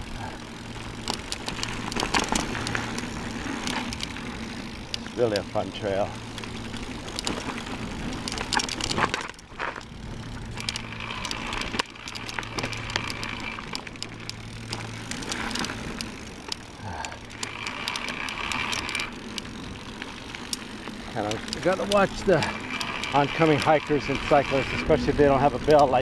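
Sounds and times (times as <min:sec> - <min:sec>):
high motor whine: 0:00.0 - 0:26.0
low motor hum: 0:00.0 - 0:26.0
tyres rattling over dirt: 0:00.0 - 0:26.0.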